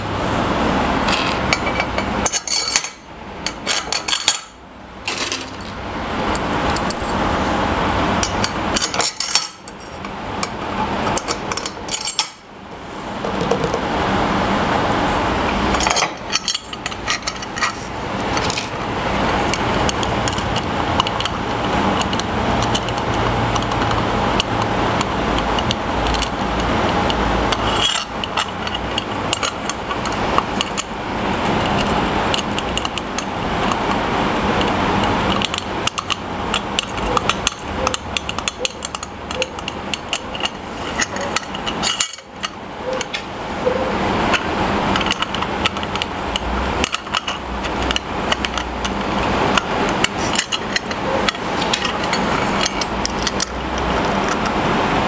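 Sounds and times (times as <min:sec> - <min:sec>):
steady background hum: 0:00.0 - 0:55.0
metal parts and tools clinking: 0:01.0 - 0:07.2, 0:08.2 - 0:12.5, 0:15.7 - 0:54.6.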